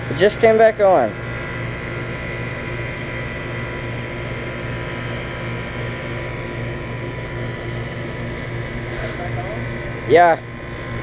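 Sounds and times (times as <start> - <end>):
air conditioner hum and whir: 0.0 - 11.0.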